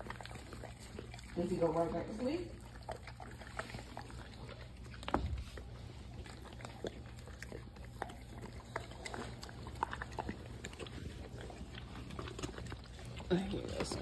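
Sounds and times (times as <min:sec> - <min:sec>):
dogs licking and lapping: 0:00.0 - 0:14.0
low steady hum: 0:00.0 - 0:14.0.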